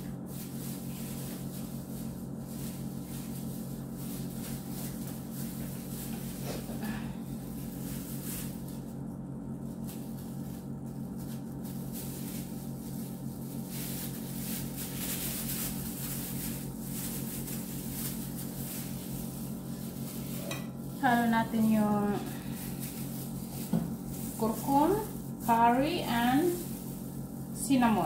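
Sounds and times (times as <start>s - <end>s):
low machine hum: 0.0s - 28.0s
plastic gloves crinkling: 0.0s - 28.0s.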